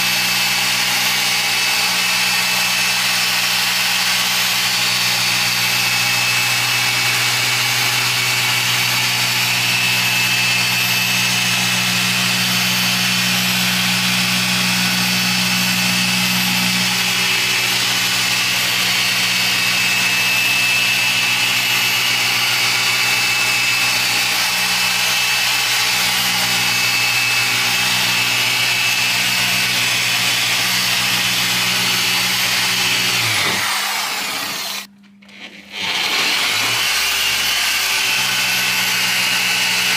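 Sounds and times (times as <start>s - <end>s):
car polisher running: 0.0s - 39.9s.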